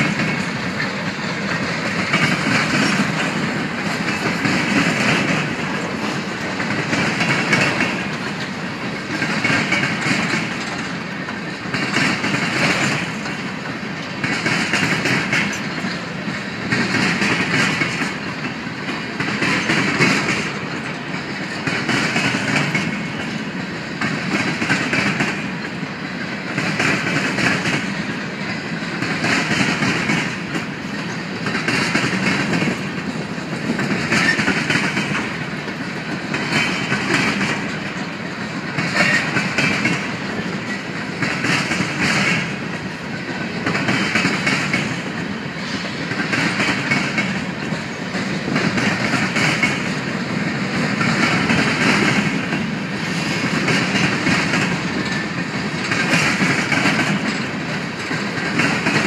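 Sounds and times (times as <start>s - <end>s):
freight train wheels rolling: 0.0s - 59.0s.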